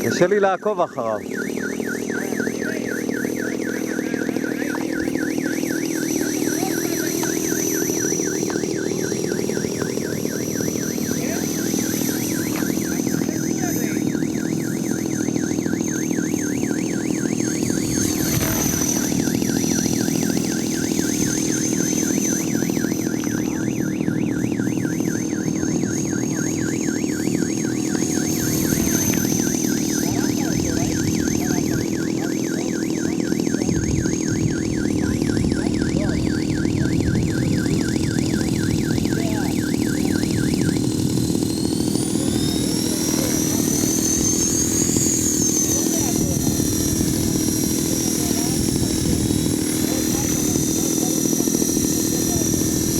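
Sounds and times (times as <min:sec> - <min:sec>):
rc helicopter rotor buzz: 0:00.0 - 0:52.9
warbling alarm tone: 0:00.0 - 0:52.9.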